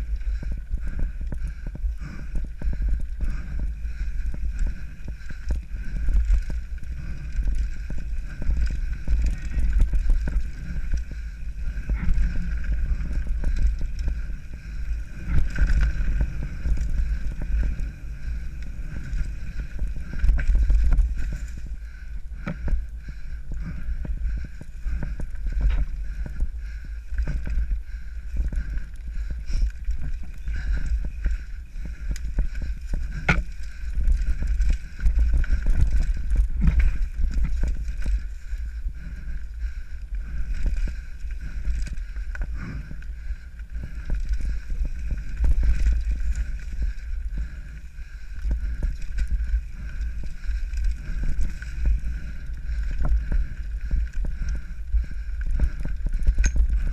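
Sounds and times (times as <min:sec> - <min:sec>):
wind rumbling on microphone: 0:00.0 - 0:56.9.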